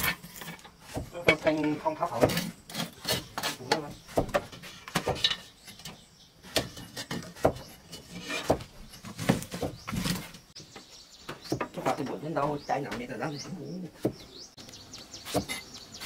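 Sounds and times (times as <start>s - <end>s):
wooden knocks and scrapes: 0.0s - 14.3s.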